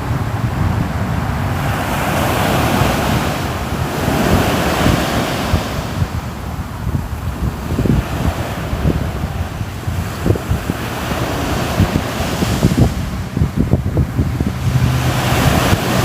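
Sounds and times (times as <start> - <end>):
low surf rumble: 0.0 - 16.0
waves breaking: 0.0 - 16.0.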